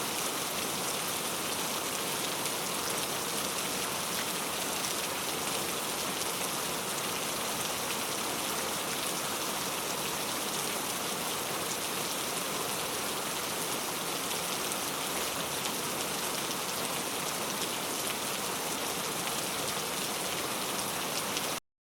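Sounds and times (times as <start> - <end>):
steady rain falling: 0.0 - 21.6.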